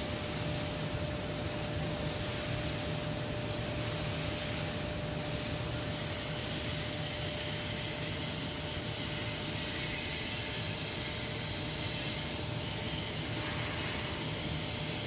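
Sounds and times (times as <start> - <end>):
factory machinery hiss and rumble: 0.0 - 15.0.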